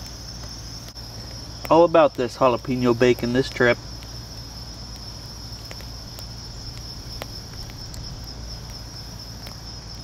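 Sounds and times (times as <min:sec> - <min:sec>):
crickets chirping: 0:00.0 - 0:10.0
low steady hum: 0:00.0 - 0:10.0.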